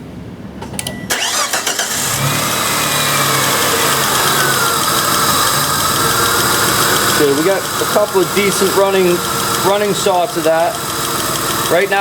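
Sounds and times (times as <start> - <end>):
car engine settling to idle: 1.1 - 12.0.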